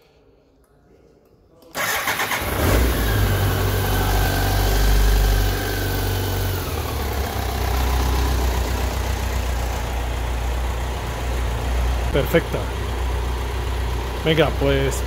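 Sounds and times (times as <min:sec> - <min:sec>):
motorcycle engine idling: 0:02.4 - 0:15.0.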